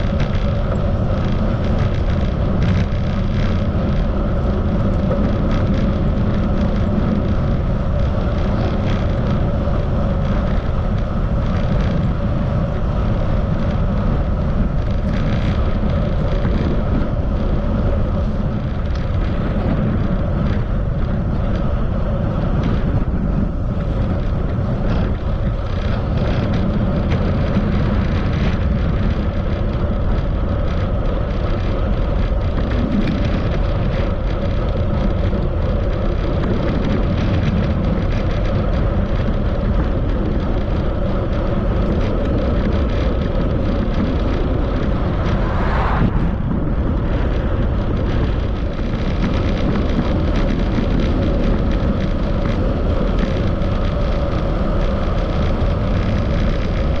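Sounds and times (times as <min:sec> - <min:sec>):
road noise: 0:00.0 - 0:57.0
wind on microphone: 0:00.0 - 0:57.0.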